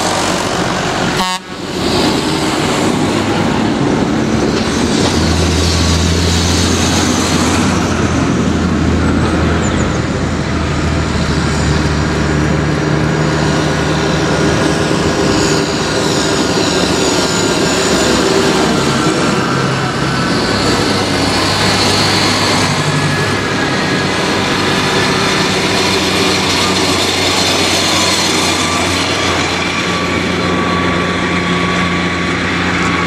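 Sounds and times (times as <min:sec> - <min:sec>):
broad rushing noise: 0:00.0 - 0:33.0
tractor engines driving past: 0:00.0 - 0:33.0.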